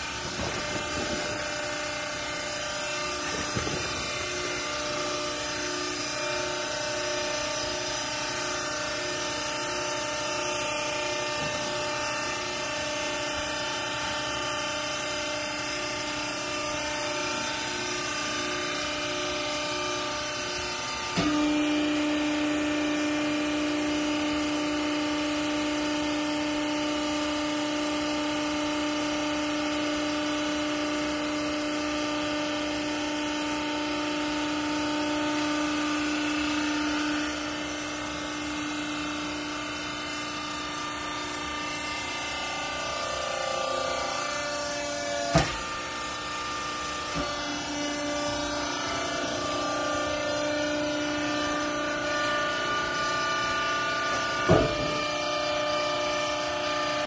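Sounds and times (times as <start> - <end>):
hydraulic pump humming: 0.0 - 57.0.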